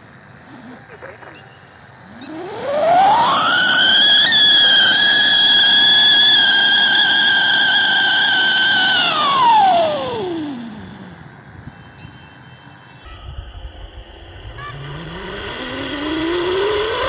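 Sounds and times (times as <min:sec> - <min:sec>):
firework siren whistle: 0:02.2 - 0:17.0.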